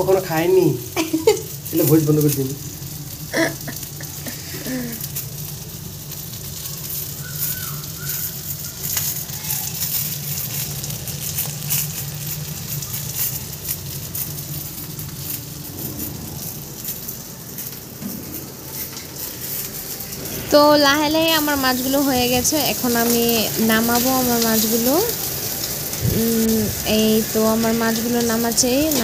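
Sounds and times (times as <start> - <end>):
fish sizzling in oil: 0.0 - 29.0.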